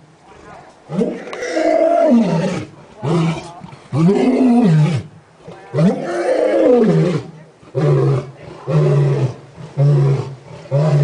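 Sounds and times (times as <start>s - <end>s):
lion roaring: 0.9s - 11.0s.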